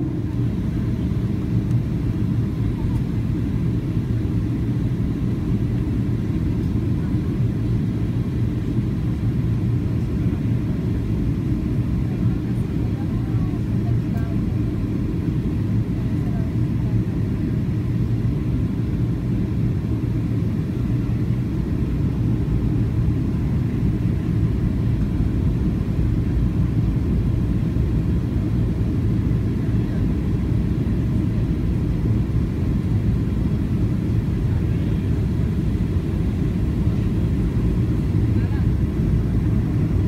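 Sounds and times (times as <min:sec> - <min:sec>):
jet engine and airflow rumble: 0:00.0 - 0:40.0.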